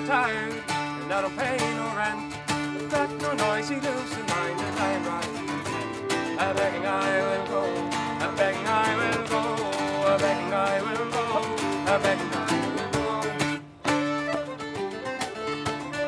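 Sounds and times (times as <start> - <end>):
folk band playing: 0.0 - 16.0
whistle and fiddle melody: 0.0 - 16.0.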